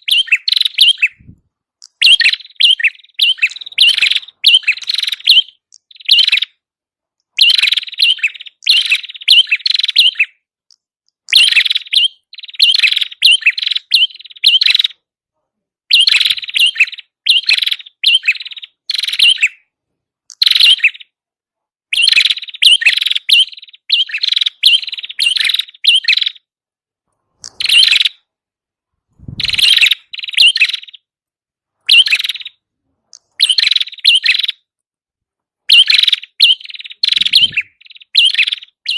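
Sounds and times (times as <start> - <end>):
bird chirping rapidly: 0.0 - 6.6, 7.3 - 10.4, 11.2 - 15.0, 15.9 - 19.7, 20.3 - 21.2, 21.9 - 26.5, 27.4 - 28.3, 29.2 - 31.1, 31.8 - 34.7, 35.6 - 38.9.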